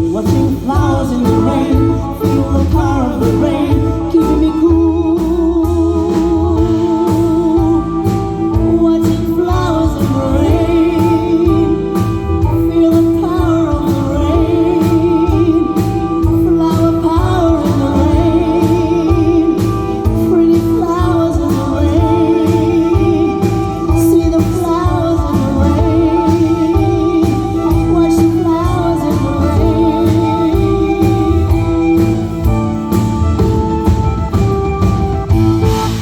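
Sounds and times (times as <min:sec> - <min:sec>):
steady drum beat: 0:00.0 - 0:36.0
wavering vibrato melody: 0:00.7 - 0:36.0.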